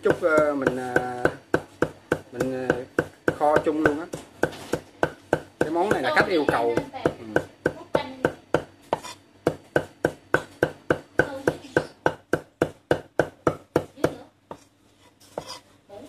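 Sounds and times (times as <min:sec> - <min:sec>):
cleaver chopping on wooden block: 0:00.0 - 0:14.2.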